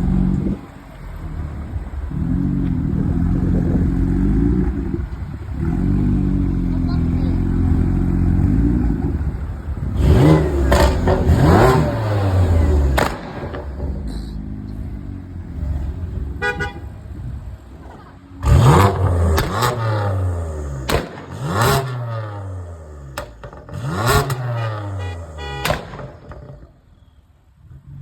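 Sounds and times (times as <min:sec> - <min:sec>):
car engine revving: 0:00.0 - 0:26.6
exhaust cracks: 0:01.6 - 0:15.8, 0:17.8 - 0:26.8.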